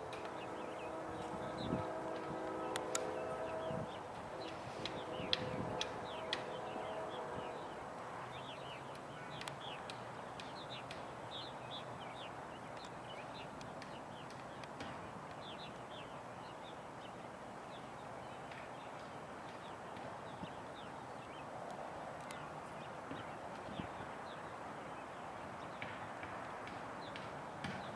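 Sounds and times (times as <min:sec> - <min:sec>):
faint background noise: 0:00.0 - 0:27.9
small birds chirping: 0:00.2 - 0:26.1.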